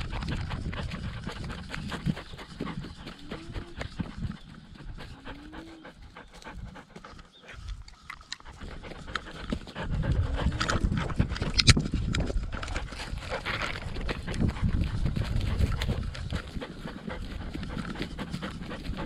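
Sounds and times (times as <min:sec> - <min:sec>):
dog panting hard: 0:00.0 - 0:19.0.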